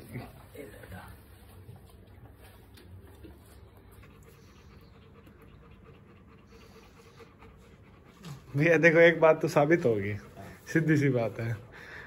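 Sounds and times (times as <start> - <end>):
dog panting faintly: 0.0 - 12.0.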